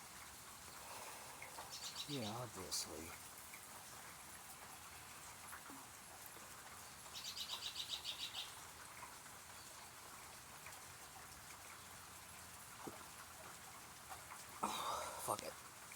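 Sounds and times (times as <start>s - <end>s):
rain hiss: 0.0s - 15.9s.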